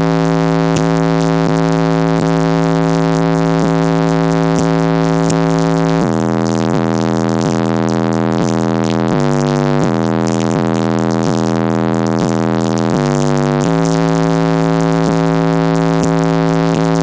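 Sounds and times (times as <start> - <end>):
distorted bass-heavy music: 0.0 - 17.0.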